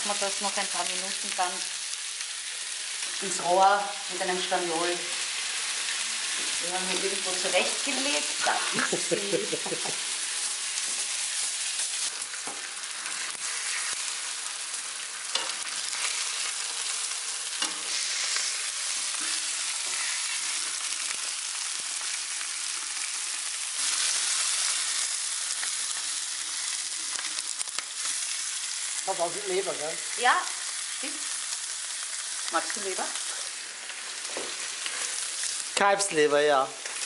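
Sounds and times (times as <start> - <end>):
meat sizzling in a pan: 0.0 - 37.0.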